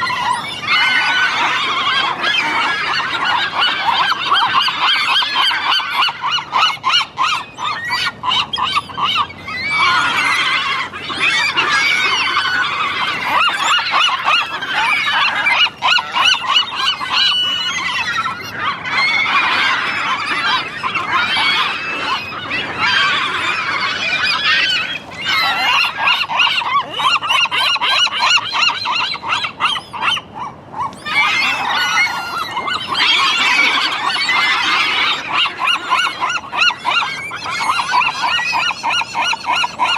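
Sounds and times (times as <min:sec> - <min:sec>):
seagulls calling: 0:00.0 - 0:39.9.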